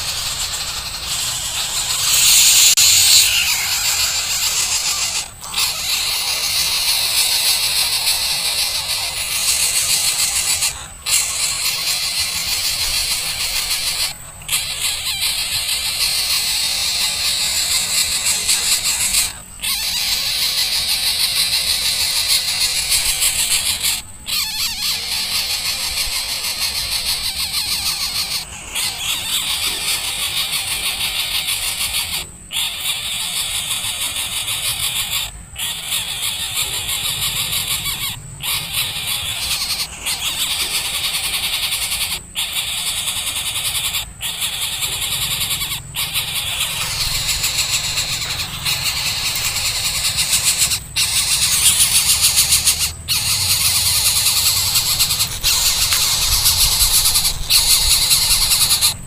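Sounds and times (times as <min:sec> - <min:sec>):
high-pitched animal calls: 0:00.0 - 0:59.0.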